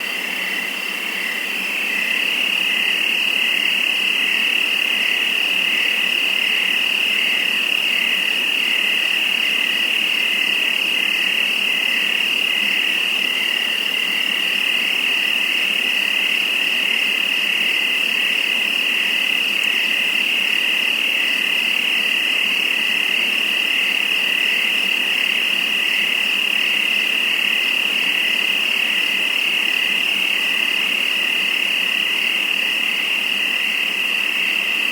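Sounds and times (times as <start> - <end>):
crickets trilling: 0.0 - 34.9.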